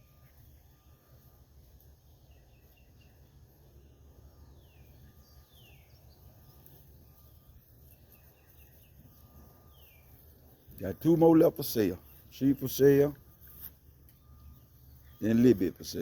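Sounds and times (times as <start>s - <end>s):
low steady rumble: 0.0s - 15.9s
faint birdsong: 0.0s - 16.0s.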